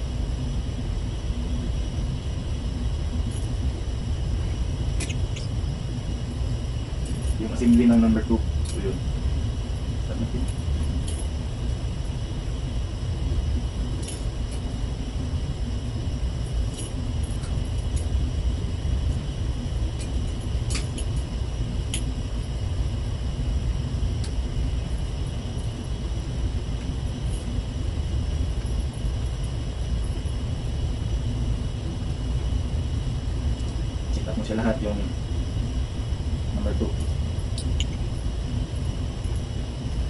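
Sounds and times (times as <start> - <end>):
faint constant hum: 0.0 - 40.0
low machinery rumble: 0.0 - 40.0.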